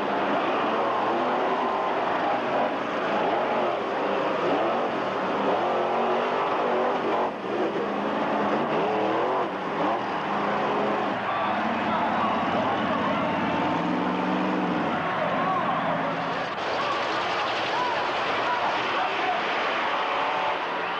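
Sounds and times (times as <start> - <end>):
monster truck engine revving: 0.0 - 20.9.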